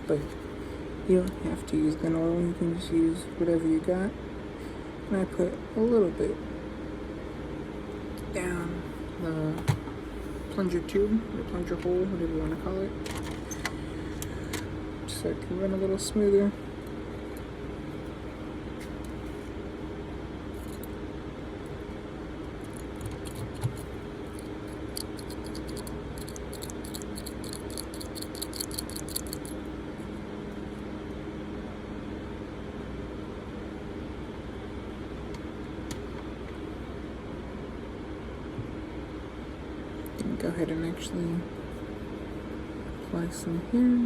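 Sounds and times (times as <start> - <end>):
room hum: 0.0 - 44.0.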